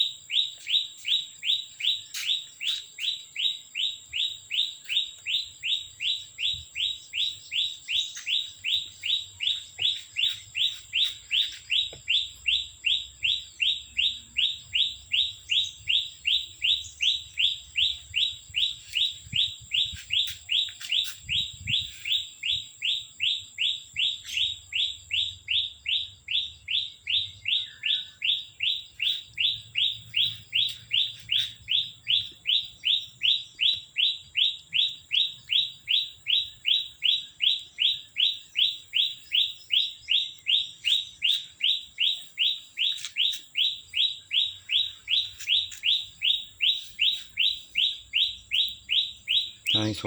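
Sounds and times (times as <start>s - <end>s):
bird chirping: 0.0s - 50.0s.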